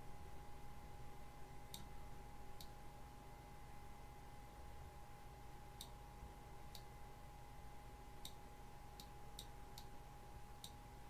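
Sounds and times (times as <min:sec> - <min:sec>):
faint electrical whine: 0:00.0 - 0:11.0.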